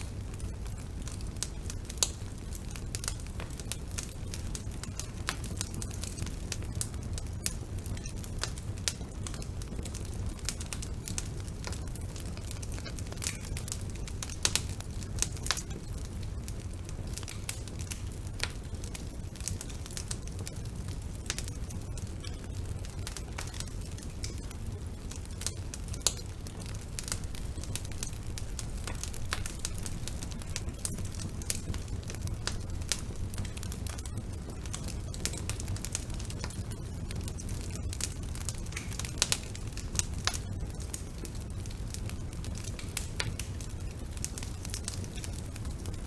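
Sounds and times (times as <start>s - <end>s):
fire crackling and popping: 0.0s - 46.0s
low rumble of flames: 0.0s - 46.0s.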